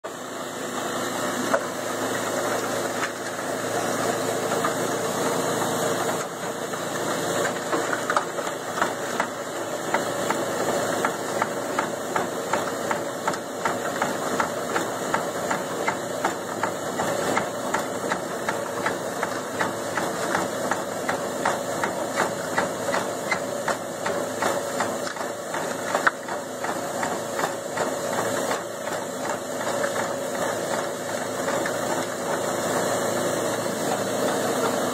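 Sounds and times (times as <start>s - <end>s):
cement mixer engine chugging: 0.0s - 34.9s.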